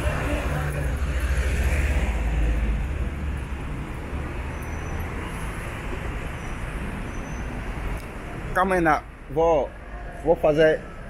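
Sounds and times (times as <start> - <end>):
vehicle engines passing: 0.0 - 11.0.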